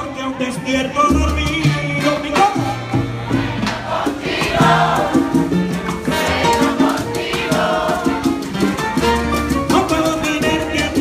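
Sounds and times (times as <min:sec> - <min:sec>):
live salsa band playing: 0:00.0 - 0:11.0.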